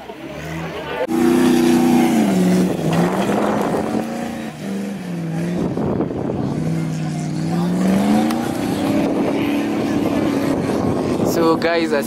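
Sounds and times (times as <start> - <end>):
off-road car engine revving: 0.0 - 12.0
rush of noise from car: 0.0 - 12.0.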